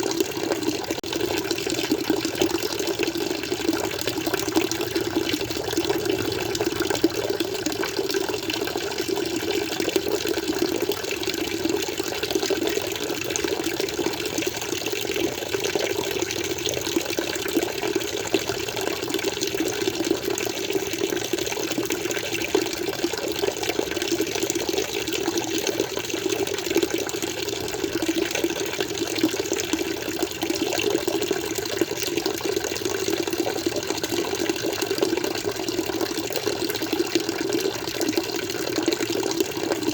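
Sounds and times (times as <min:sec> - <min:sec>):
aquarium water flowing: 0:00.0 - 0:39.9.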